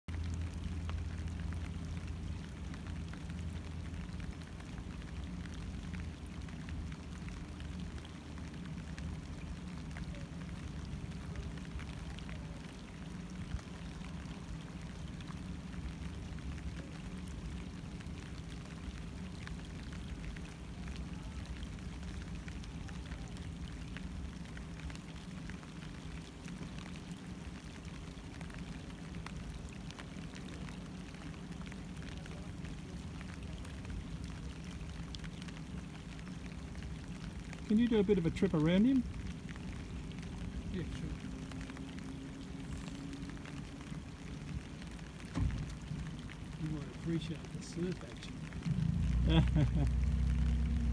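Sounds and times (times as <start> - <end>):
rain falling on water: 0.0 - 50.9.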